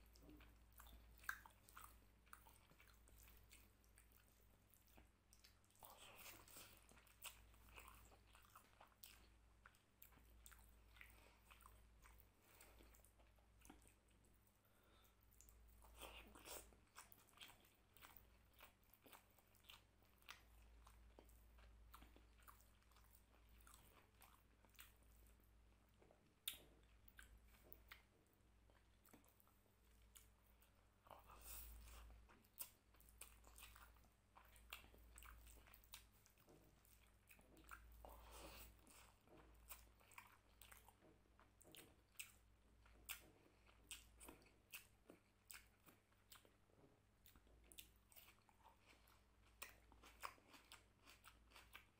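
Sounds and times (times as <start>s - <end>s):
close-up chewing: 0.0s - 51.9s.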